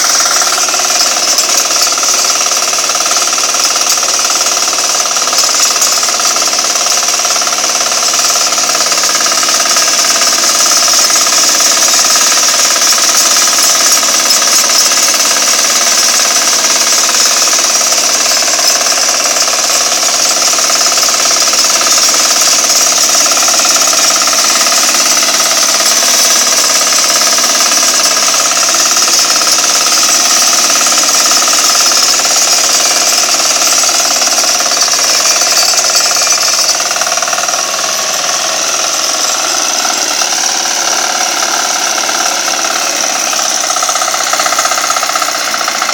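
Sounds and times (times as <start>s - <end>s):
small tractor engine running: 0.0s - 45.9s.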